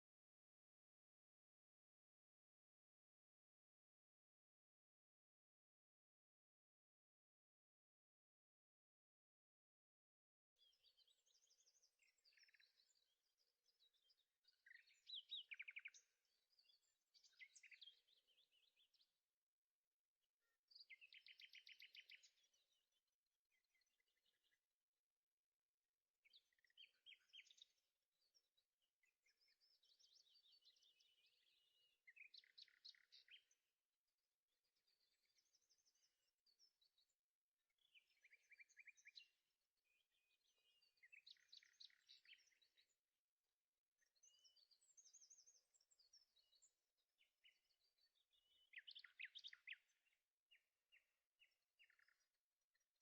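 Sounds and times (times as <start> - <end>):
faint birdsong: 0.0 - 53.0.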